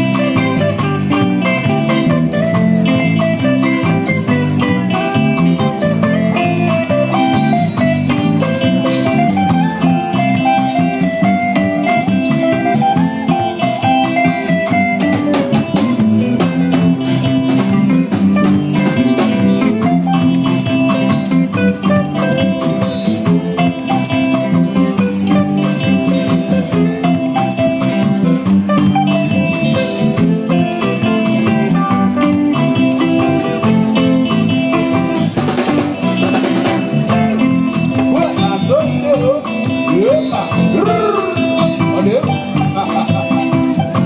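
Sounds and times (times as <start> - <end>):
drum kit beat: 0.0 - 44.0
guitar: 0.0 - 44.0.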